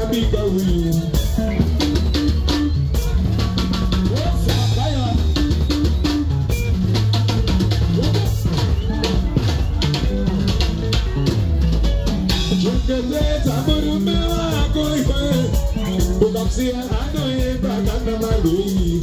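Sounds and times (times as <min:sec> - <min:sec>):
drum kit beat: 0:00.0 - 0:19.0
electric bass line: 0:00.0 - 0:19.0
electric guitar: 0:00.0 - 0:19.0.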